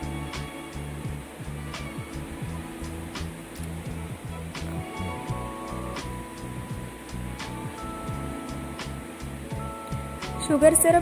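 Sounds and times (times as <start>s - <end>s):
low sliding bass line: 0.0s - 11.0s.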